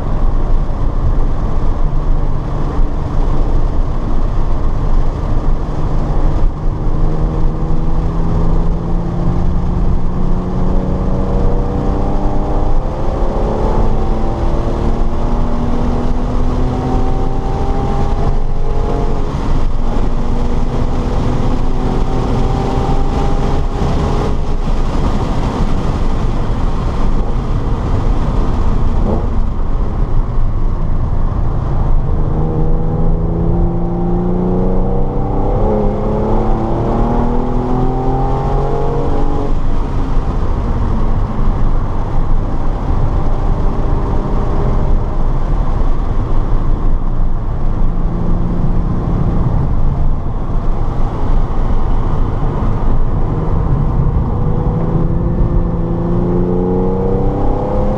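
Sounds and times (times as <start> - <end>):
car engine revving: 0.0 - 57.9
road and wind rumble: 0.0 - 57.9.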